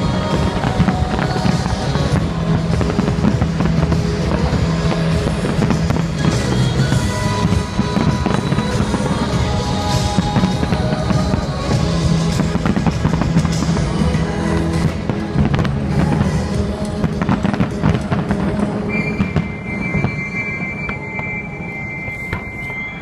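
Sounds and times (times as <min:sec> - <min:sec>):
loud music with held notes: 0:00.0 - 0:18.9
fireworks bursting and crackling: 0:00.0 - 0:23.0.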